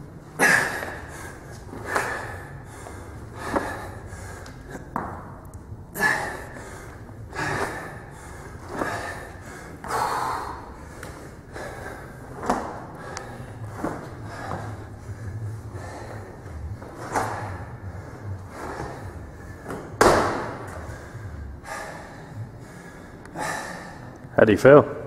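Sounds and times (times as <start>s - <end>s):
man breathing hard: 0.2s - 24.3s.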